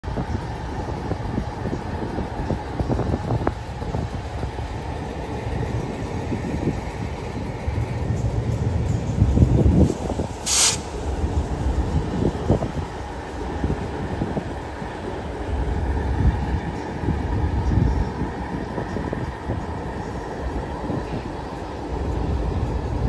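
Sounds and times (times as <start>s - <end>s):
diesel locomotive engine running: 0.0s - 23.0s
steel wheels clattering on rails: 0.0s - 23.0s.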